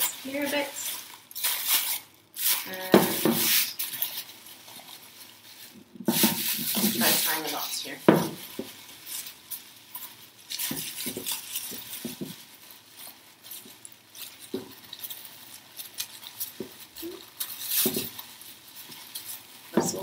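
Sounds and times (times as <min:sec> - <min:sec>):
plastic bag crinkling: 0:00.0 - 0:20.0.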